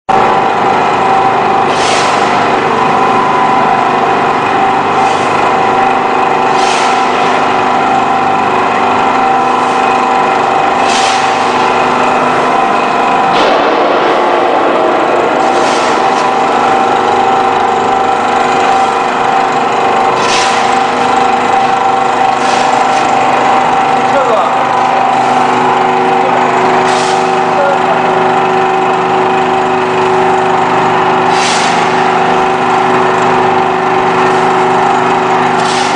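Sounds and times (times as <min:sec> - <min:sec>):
hydraulic press whining: 0:00.1 - 0:35.9.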